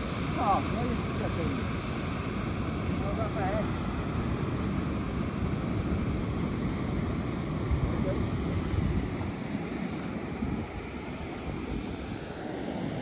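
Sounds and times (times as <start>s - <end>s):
sea surf washing: 0.0s - 13.0s
wind buffeting microphone: 0.0s - 13.0s.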